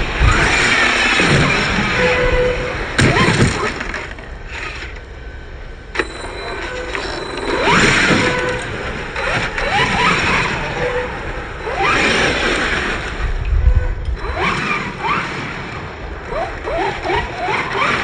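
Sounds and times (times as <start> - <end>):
running rc cars noise: 0.0 - 5.1, 6.0 - 18.0
electric motors whining: 0.0 - 18.0.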